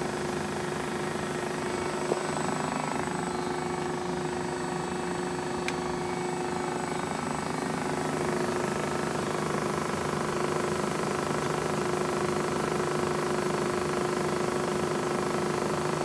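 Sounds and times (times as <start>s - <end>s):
grinder machine hum: 0.0s - 16.0s.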